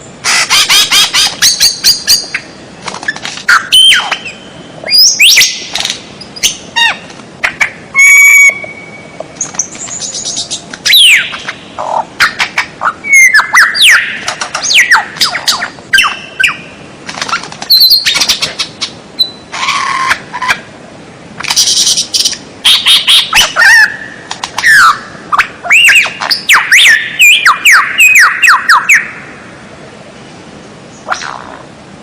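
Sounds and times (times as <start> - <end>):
bird squawks: 0.2 - 20.6, 21.4 - 29.3, 31.0 - 31.7
songbird chirps and whistles: 0.3 - 7.0, 7.6 - 16.8, 17.7 - 20.6, 21.5 - 29.2.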